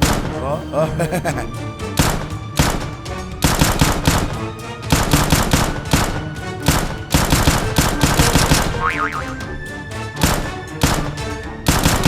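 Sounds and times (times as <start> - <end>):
action background music: 0.0 - 12.0.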